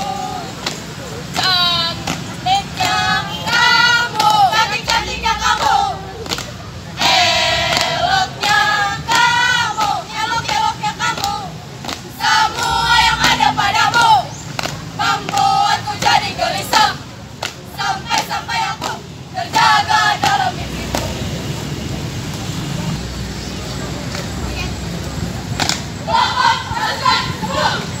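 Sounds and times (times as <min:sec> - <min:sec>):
girls singing and chanting: 0:00.0 - 0:21.5, 0:24.2 - 0:28.0.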